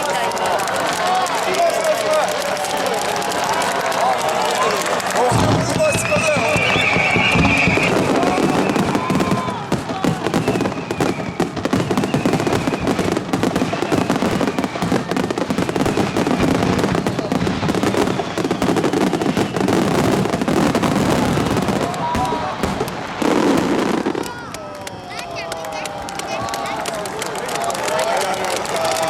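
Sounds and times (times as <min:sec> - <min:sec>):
fireworks crackling: 0:00.0 - 0:29.0.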